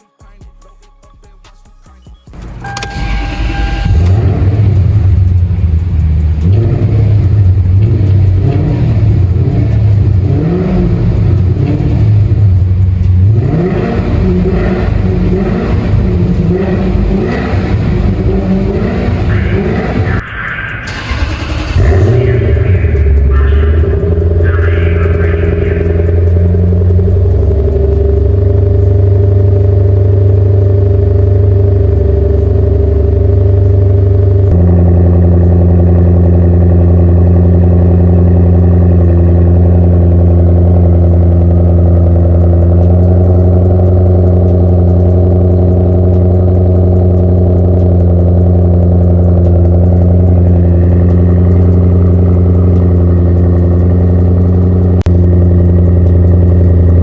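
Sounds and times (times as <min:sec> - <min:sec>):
car engine running deep note: 0:02.4 - 0:57.0.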